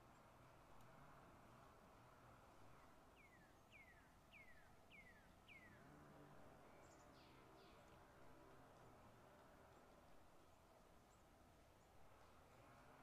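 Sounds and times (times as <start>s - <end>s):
quiet background hiss: 0.0s - 13.0s.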